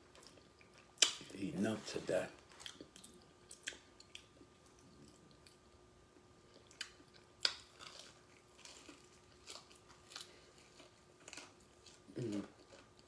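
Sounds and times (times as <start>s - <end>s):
person chewing bread: 0.0s - 13.0s.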